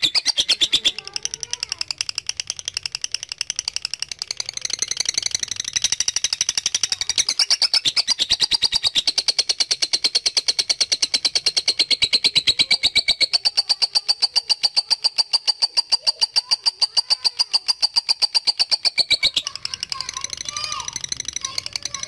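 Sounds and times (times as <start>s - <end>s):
lovebird rapid high chirps: 0.0s - 22.0s.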